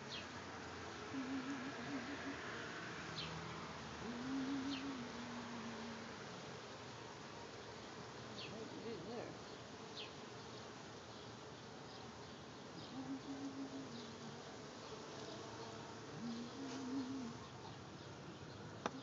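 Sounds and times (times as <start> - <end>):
bee flying past: 0.0 - 17.9
bees buzzing: 0.0 - 19.0.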